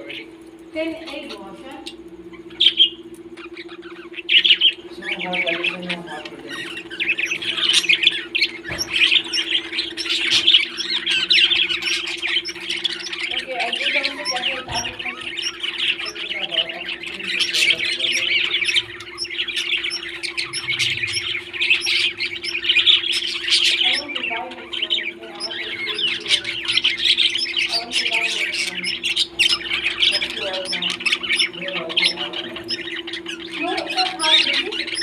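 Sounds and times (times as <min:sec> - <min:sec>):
parrots chattering and squawking: 0:00.0 - 0:35.0
steady low hum: 0:00.0 - 0:35.0.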